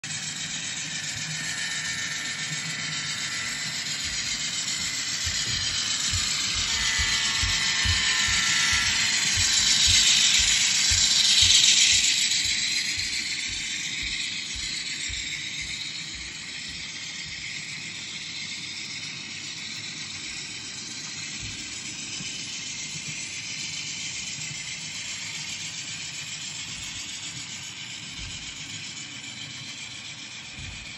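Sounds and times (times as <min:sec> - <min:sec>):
model train rolling past: 0:00.1 - 0:30.9.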